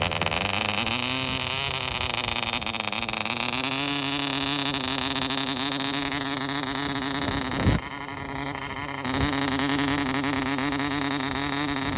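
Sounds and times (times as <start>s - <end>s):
model engine running: 0.0s - 11.9s.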